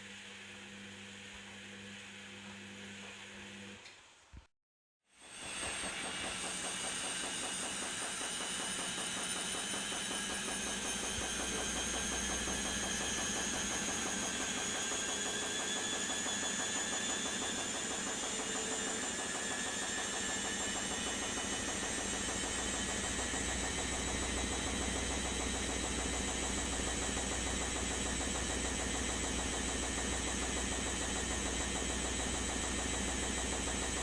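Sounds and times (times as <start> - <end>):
washing machine motor whining: 5.3 - 34.0.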